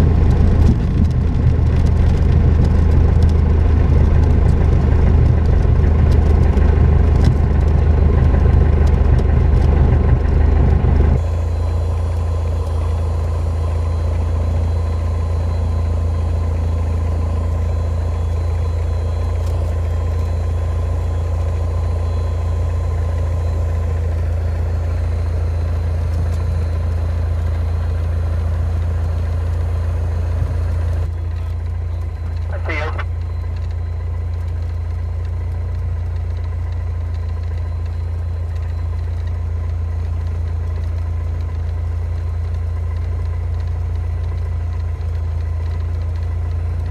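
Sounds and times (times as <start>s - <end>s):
light aircraft engine and propeller: 0.0s - 46.9s.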